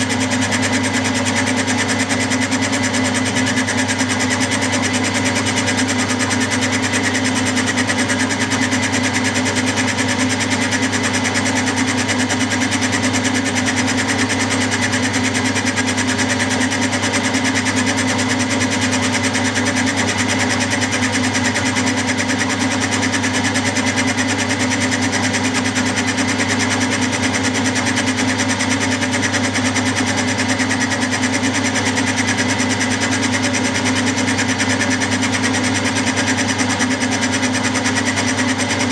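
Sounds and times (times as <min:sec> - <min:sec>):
milling machine cutting metal: 0:00.0 - 0:38.9.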